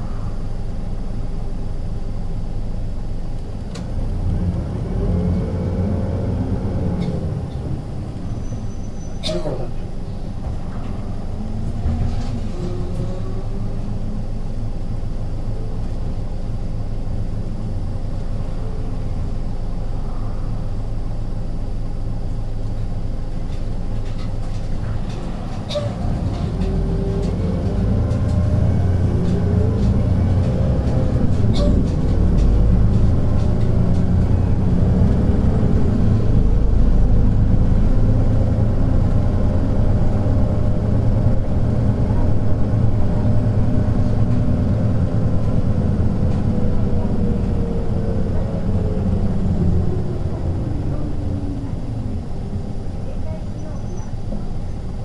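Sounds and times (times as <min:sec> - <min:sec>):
bus diesel engine accelerating: 0:00.0 - 0:55.0.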